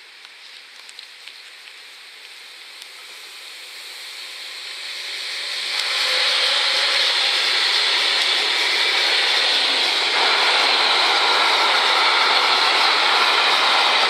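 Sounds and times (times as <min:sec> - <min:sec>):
freight train wheels on rail: 0:00.0 - 0:14.0.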